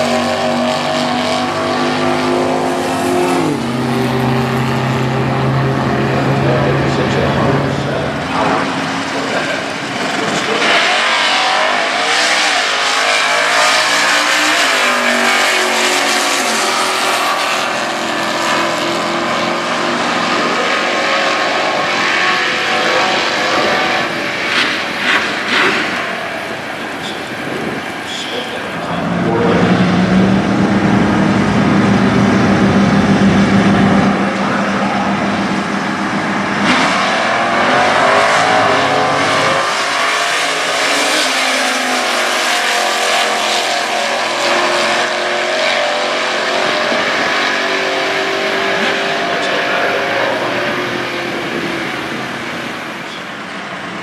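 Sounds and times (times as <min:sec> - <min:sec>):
cars accelerating away: 0:00.0 - 0:54.0
drag car engines revving: 0:00.0 - 0:54.0.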